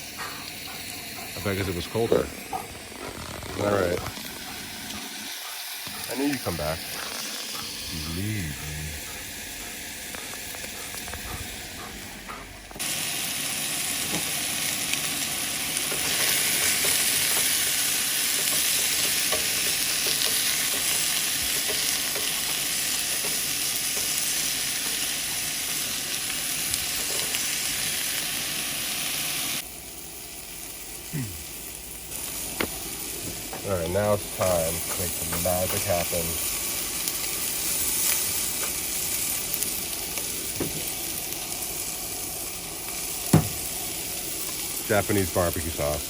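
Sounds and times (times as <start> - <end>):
chicken wings sizzling: 0.0 - 46.0.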